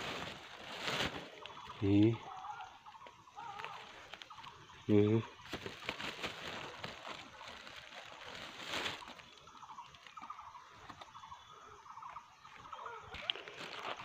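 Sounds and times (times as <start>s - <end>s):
rustling through undergrowth: 0.0s - 14.0s
faint bird chirps: 0.1s - 14.0s.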